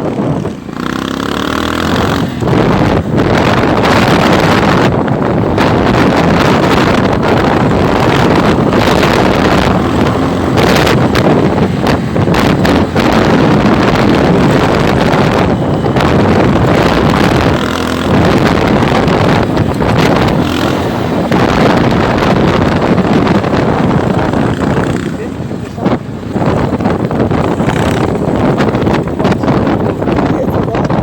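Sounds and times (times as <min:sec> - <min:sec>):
motorcycle engine running: 0:00.0 - 0:31.0
wind noise on microphone: 0:00.0 - 0:31.0.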